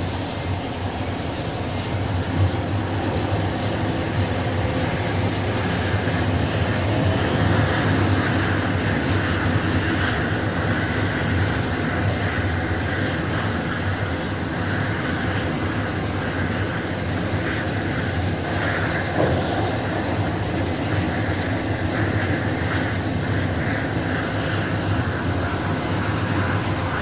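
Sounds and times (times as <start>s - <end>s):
turboprop engines droning: 0.0s - 27.0s.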